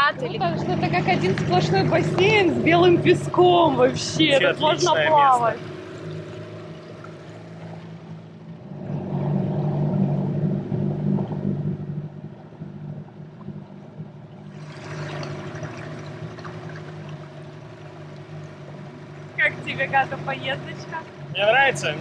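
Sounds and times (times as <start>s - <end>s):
small outboard motor running: 0.0s - 22.0s.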